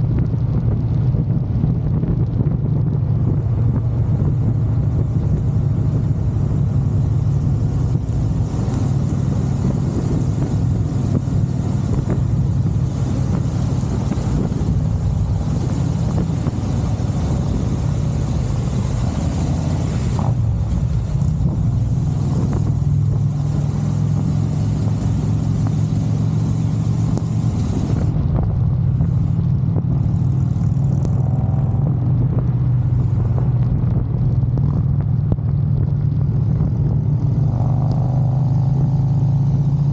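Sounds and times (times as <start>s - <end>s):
motorcycle engine cruising: 0.0s - 39.9s
wind and wet road hiss: 0.0s - 39.9s.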